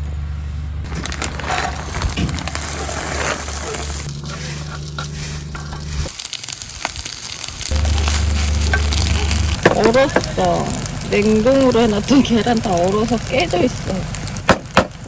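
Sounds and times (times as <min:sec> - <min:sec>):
steady low hum: 0:00.0 - 0:15.0
rice sizzling in a pan: 0:01.1 - 0:15.0.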